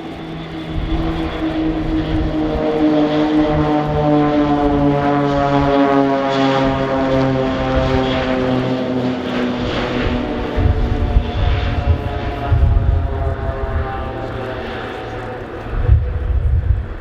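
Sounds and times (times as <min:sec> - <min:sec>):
propeller plane drone: 0:00.0 - 0:17.0.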